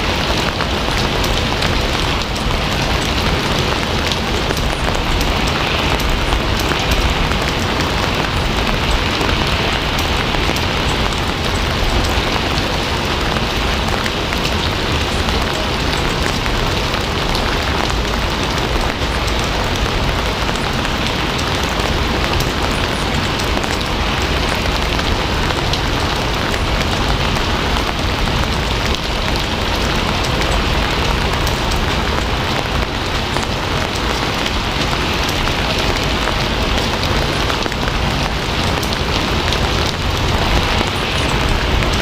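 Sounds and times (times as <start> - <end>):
heavy rain on a surface: 0.0 - 42.0.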